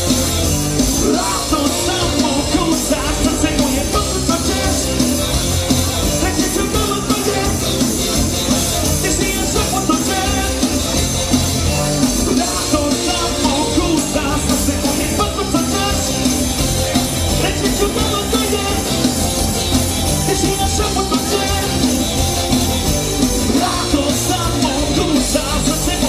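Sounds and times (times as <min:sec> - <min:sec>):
bass guitar: 0:00.0 - 0:26.0
drums: 0:00.0 - 0:26.0
electric guitars: 0:00.0 - 0:26.0.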